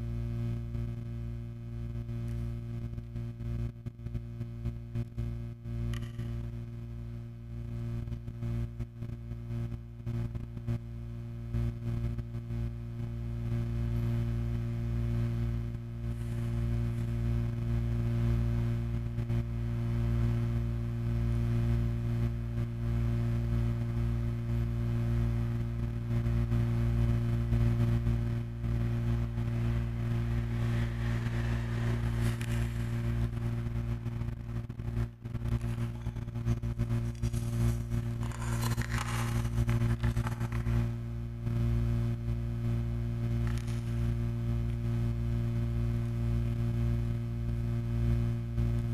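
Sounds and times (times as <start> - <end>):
low droning hum: 0.0 - 48.9.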